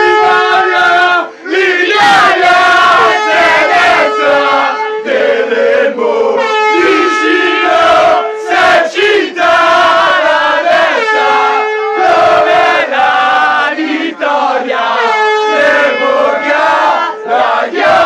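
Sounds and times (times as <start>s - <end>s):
fans shouting and chanting: 0.0s - 18.0s.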